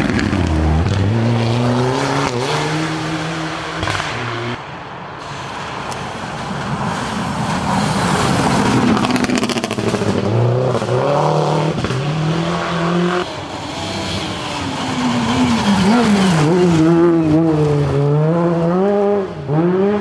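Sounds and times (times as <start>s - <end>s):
rally car engines at high revs: 0.0s - 4.6s, 7.8s - 20.0s
car accelerating and passing close: 0.0s - 4.7s, 6.0s - 20.0s.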